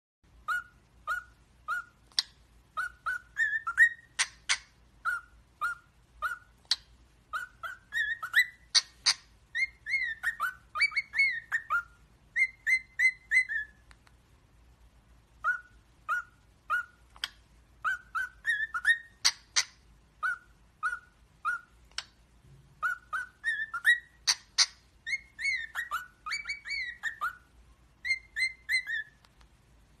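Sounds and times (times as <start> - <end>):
parrot whistling a tune: 0.4 - 13.8, 15.4 - 22.1, 22.8 - 29.3.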